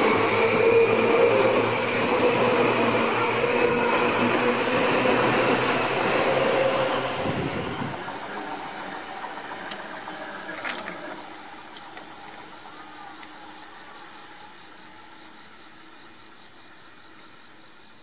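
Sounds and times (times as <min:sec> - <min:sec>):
train rumble and wheel noise: 0:00.0 - 0:18.0.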